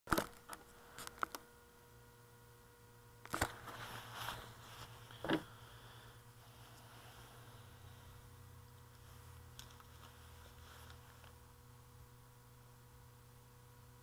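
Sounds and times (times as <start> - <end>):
faint low hum: 0.1 - 14.0.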